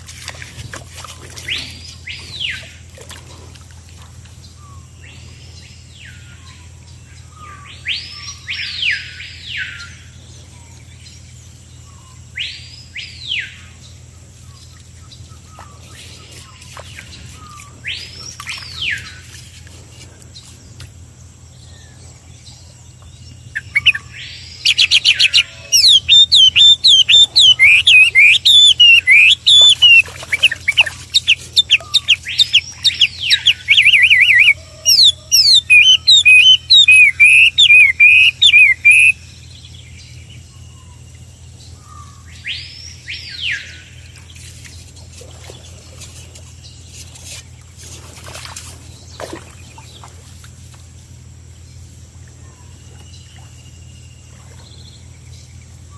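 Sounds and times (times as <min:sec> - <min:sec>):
songbird singing trills: 0:04.4 - 0:55.9.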